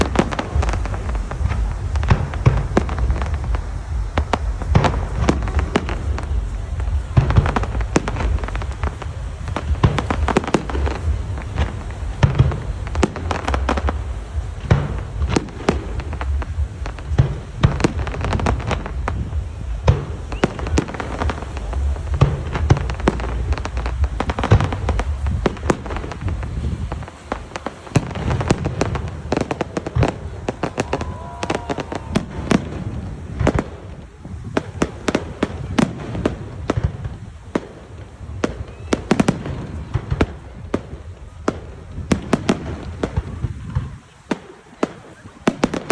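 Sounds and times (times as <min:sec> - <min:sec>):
deep booming rumble: 0:00.0 - 0:44.0
fireworks bangs and crackles: 0:00.0 - 0:45.9.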